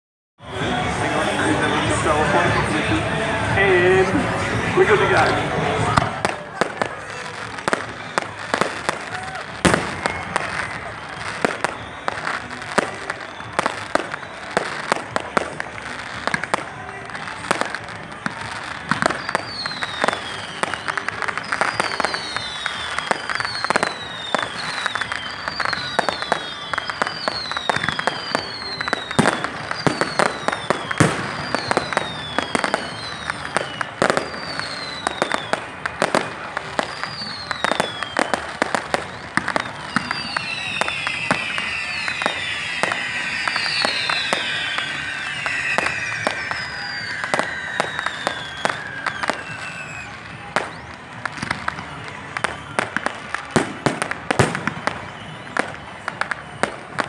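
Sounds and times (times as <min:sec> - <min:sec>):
fireworks cracking and banging: 0:00.4 - 0:57.0
whistling fireworks: 0:00.4 - 0:57.0.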